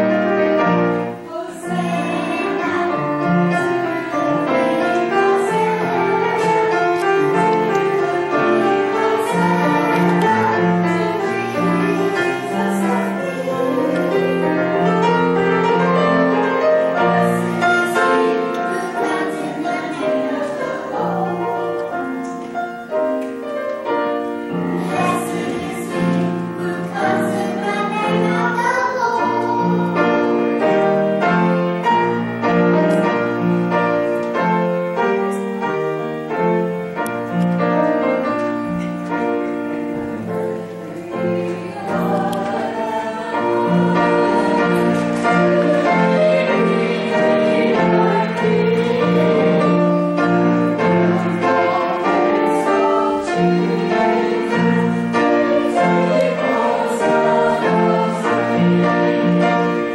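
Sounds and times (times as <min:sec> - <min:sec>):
group of voices singing: 0:00.0 - 0:22.7, 0:24.5 - 0:33.3, 0:40.0 - 0:59.9
piano accompaniment: 0:00.0 - 0:59.9.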